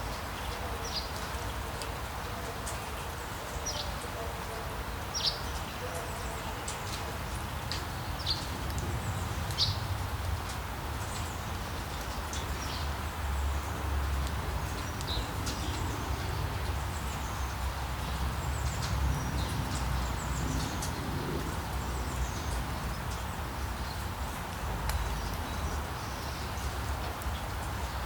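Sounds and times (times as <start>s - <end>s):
songbirds chirping: 0.0s - 28.0s
steady rain falling: 0.0s - 28.0s.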